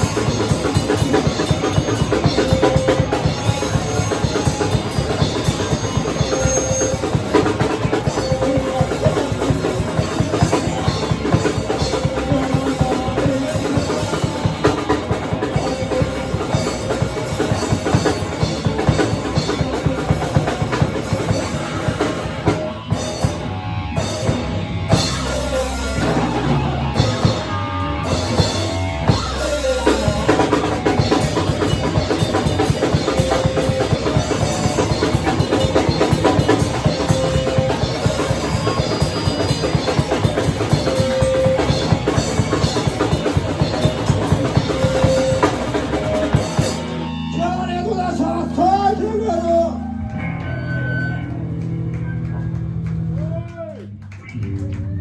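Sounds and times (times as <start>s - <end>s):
rapid drum beats: 0.0s - 49.8s
rock band playing: 0.0s - 53.3s.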